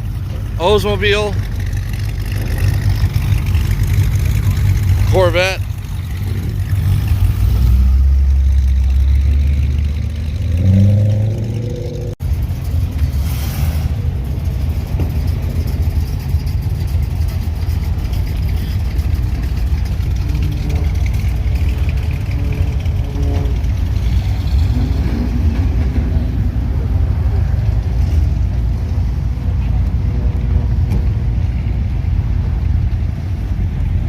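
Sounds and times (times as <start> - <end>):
car engine rumbling and revving: 0.0 - 34.0.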